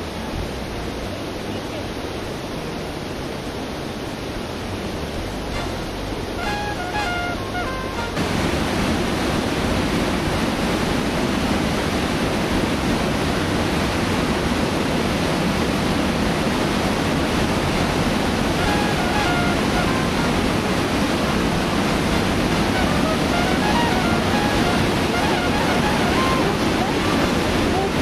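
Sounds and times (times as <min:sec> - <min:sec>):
mountain torrent rushing: 0:00.0 - 0:28.0.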